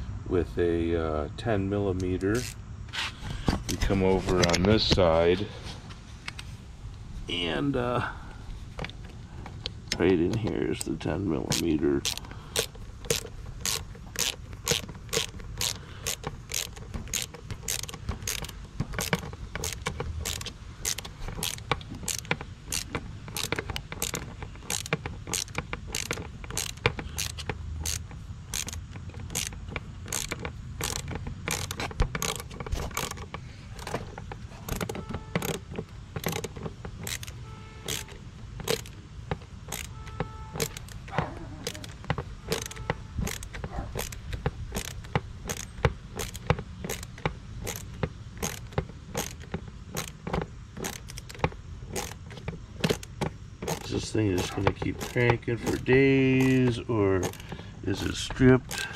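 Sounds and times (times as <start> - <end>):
ratchet wrench clicking: 2.0 - 2.6, 9.6 - 58.9.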